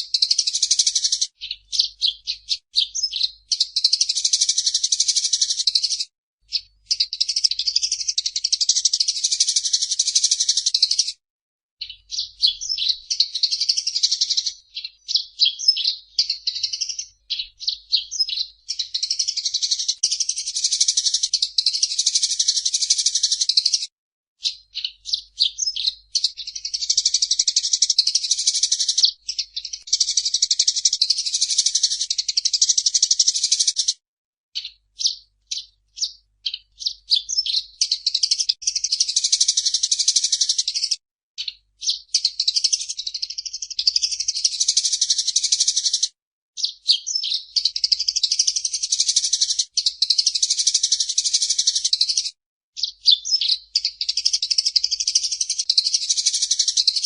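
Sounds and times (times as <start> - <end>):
sparrow chirping and chattering: 0.0 - 11.2, 11.8 - 34.0, 34.6 - 57.0.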